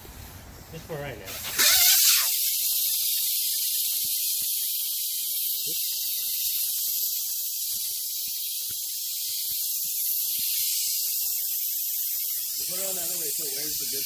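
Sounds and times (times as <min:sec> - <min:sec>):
air hissing out of tire: 0:01.3 - 0:14.0.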